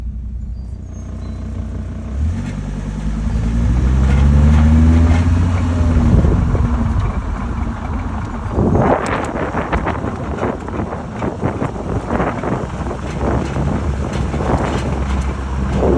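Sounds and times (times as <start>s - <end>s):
car accelerating: 0.0s - 15.9s.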